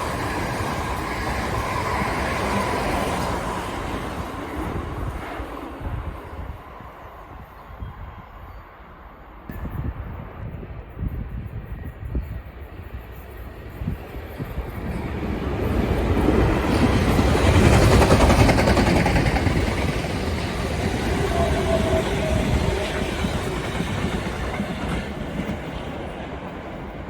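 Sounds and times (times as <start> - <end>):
passenger train passing: 0.0 - 27.0.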